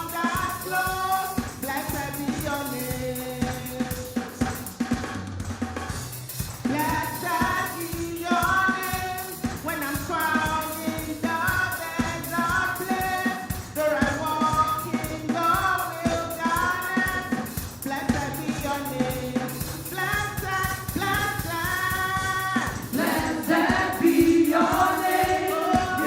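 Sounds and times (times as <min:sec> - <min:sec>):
voices singing praise song: 0:00.0 - 0:04.4, 0:06.6 - 0:26.0
band with steady drum beat: 0:00.0 - 0:26.0.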